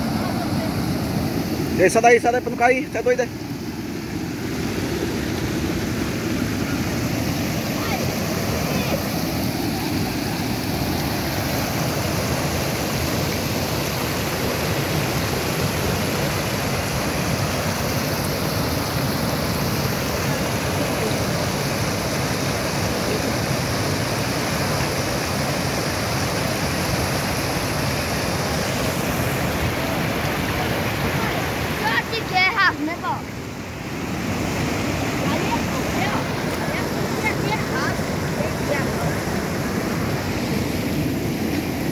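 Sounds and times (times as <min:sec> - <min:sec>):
floodwater rushing over rocks: 0:00.0 - 0:41.9.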